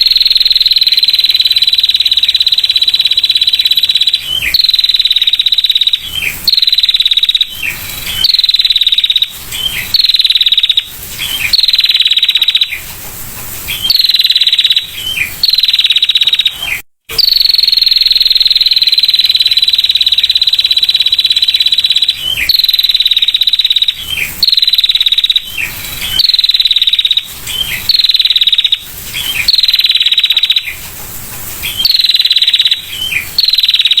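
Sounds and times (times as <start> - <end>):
bird high trill: 0.0 - 12.9, 13.7 - 30.8, 31.6 - 34.0
harsh rasping bird calls: 0.0 - 12.9, 13.6 - 30.9, 31.5 - 34.0.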